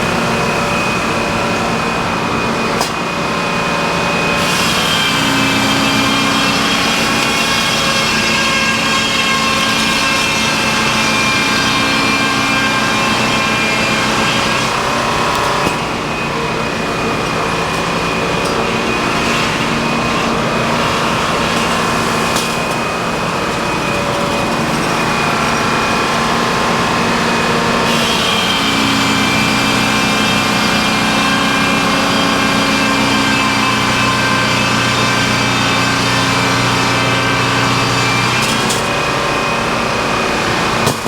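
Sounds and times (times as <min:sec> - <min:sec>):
sawmill engine and saw running: 0:00.0 - 0:41.0.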